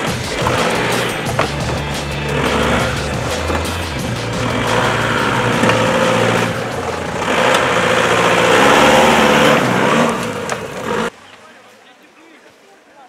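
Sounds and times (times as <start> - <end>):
suv engine revving: 0.0 - 11.1.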